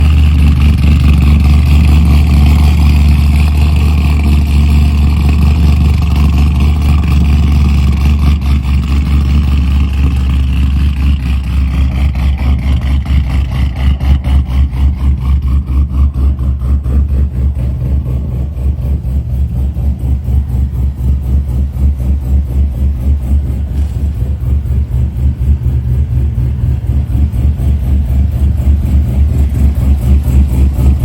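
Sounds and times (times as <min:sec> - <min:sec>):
car engine idling through loud exhaust: 0:00.0 - 0:31.0.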